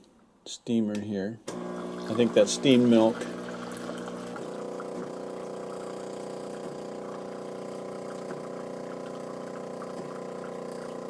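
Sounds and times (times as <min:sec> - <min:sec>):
coffee machine pump buzzing hum: 0:01.5 - 0:11.0.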